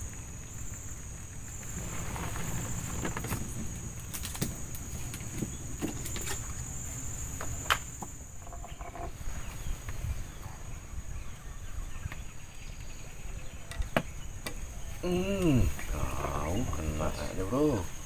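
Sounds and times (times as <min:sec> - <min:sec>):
insects shrilling: 0:00.0 - 0:18.0.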